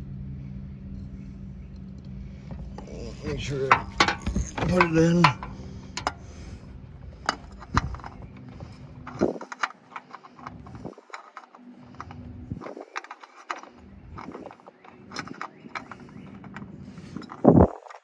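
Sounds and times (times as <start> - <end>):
low hum: 0.0 - 17.9
tools clicking and clinking: 2.7 - 18.0.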